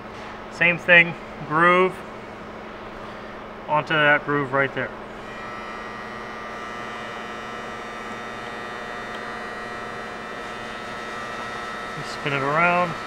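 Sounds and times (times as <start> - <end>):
electrical hum: 0.0 - 13.0
high constant whine: 0.0 - 13.0.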